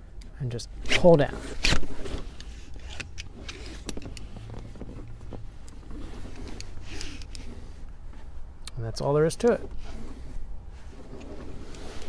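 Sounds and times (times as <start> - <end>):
seat belt clicks and rustles: 0.1 - 12.0.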